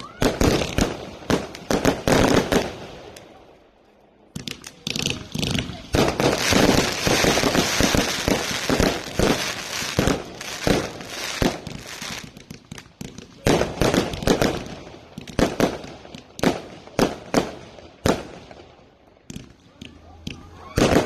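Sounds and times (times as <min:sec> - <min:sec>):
fireworks crackling and banging: 0:00.0 - 0:03.6, 0:04.2 - 0:21.0.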